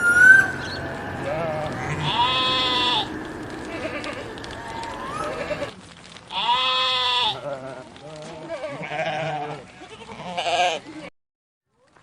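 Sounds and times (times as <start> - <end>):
farm animal bleating: 0.8 - 5.7, 6.3 - 11.1.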